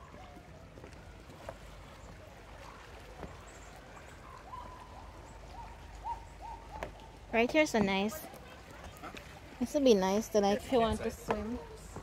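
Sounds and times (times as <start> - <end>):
faint distant voices: 0.0 - 12.0.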